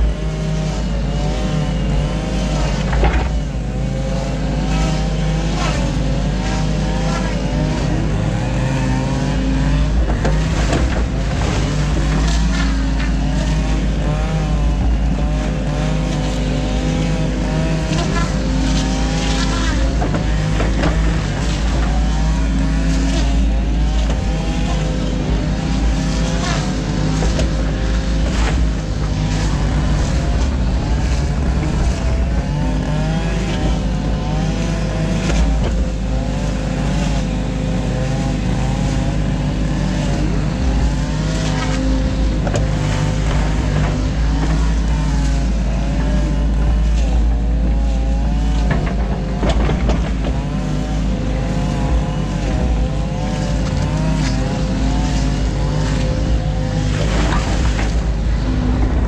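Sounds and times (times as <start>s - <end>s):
excavator diesel engine running: 0.0s - 59.0s
hydraulics whining: 0.0s - 59.0s.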